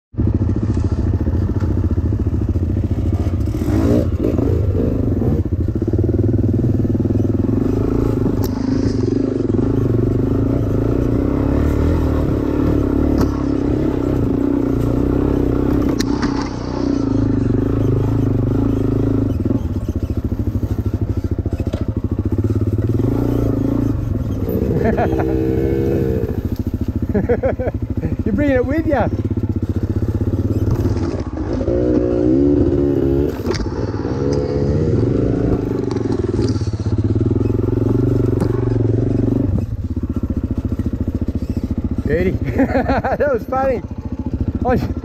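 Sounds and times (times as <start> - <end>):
dirt bike engine revving: 0.2 - 45.0.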